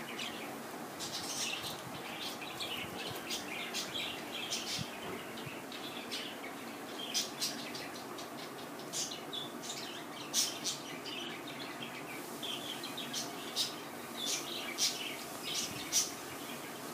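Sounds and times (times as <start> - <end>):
low background noise: 0.0 - 16.9.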